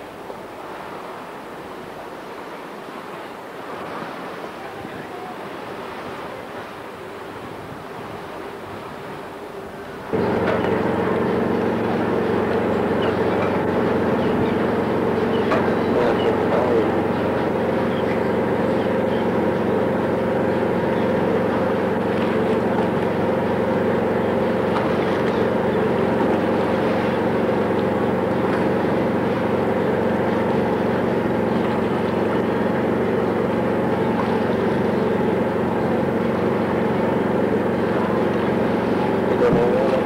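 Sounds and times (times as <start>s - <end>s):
boat engine droning: 0.0s - 40.0s.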